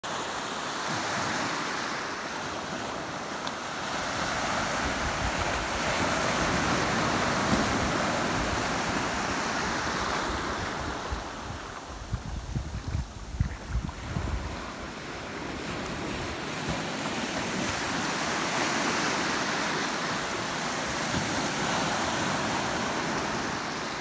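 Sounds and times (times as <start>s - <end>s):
small ocean waves breaking: 0.0s - 24.0s.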